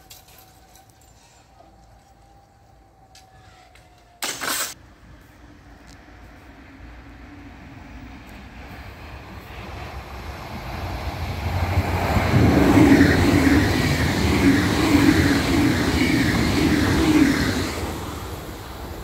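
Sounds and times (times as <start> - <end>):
wheels rumbling and rattling on rails: 0.0 - 19.0
electric train passing: 2.3 - 19.0.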